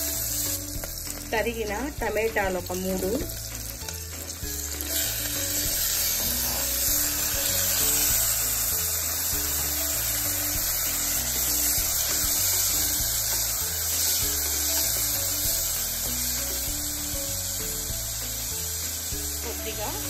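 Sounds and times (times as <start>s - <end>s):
background music with bass line: 0.0s - 20.0s
tomatoes sizzling in oil: 0.0s - 20.0s.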